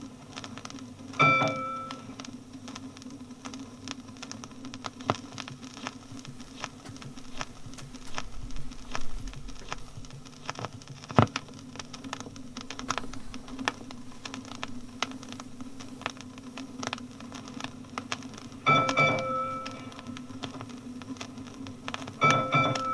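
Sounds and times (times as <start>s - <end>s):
disc surface clicks and crackle: 0.0s - 22.9s.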